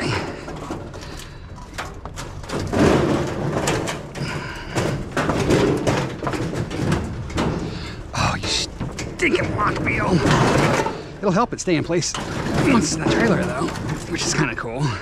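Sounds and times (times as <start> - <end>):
metal grill scraping and rattling: 0.0 - 15.0.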